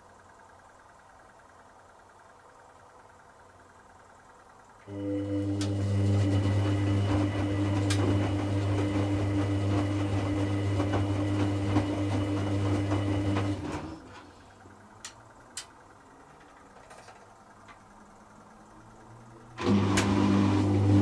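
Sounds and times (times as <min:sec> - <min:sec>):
washing machine drain pump humming: 0:00.0 - 0:21.0.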